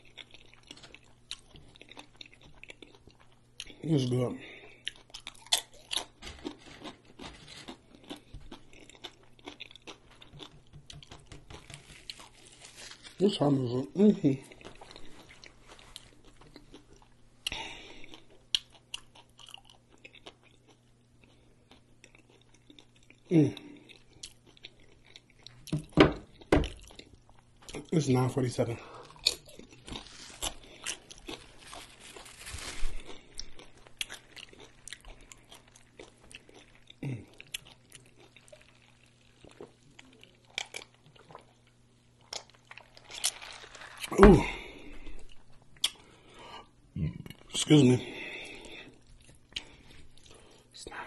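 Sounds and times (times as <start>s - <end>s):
person chewing food: 0.0s - 13.2s, 14.4s - 28.0s, 28.8s - 50.8s
chip crunching: 0.0s - 13.7s, 14.4s - 28.2s, 29.0s - 46.1s.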